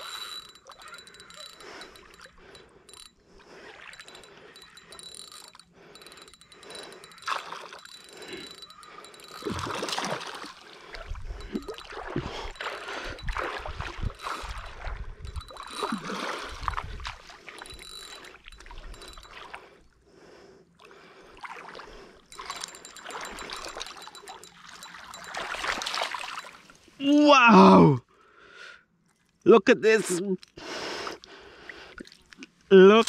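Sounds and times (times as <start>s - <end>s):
water splashing and sloshing: 0.0s - 19.9s, 20.8s - 27.0s, 31.2s - 32.7s.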